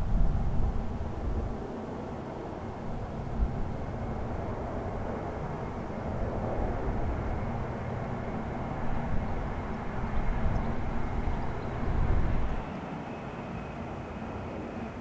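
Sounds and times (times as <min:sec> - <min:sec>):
turboprop aircraft passing overhead: 0:00.0 - 0:15.0.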